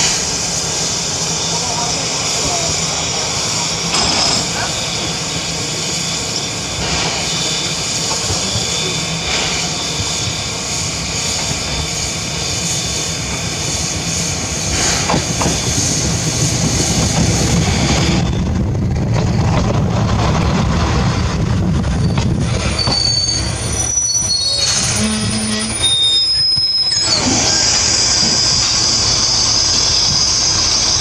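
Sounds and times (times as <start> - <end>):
steam train hissing: 0.0 - 18.6, 21.4 - 31.0
train rumbling on rails: 0.0 - 31.0.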